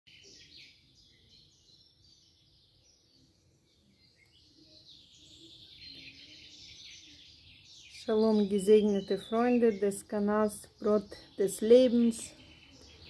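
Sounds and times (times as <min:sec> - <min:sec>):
songbirds chirping: 0:00.1 - 0:13.0.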